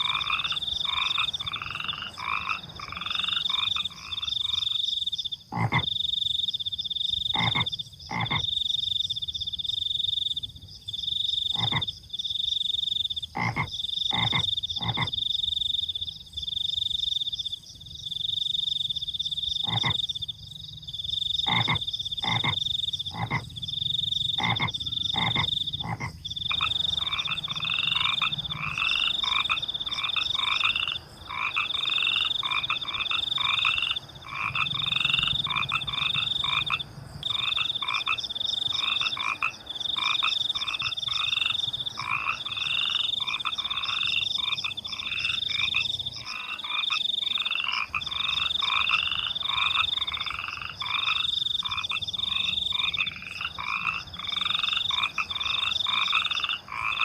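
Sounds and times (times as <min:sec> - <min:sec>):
frogs croaking: 0:00.0 - 0:57.0
high-pitched cricket trill: 0:00.0 - 0:57.0.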